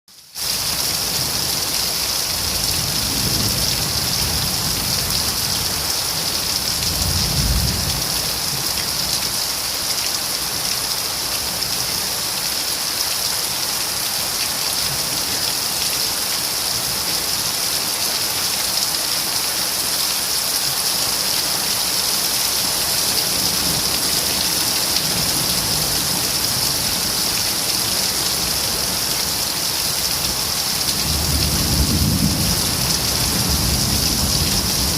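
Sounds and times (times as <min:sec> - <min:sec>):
rain falling: 0:00.1 - 0:34.9.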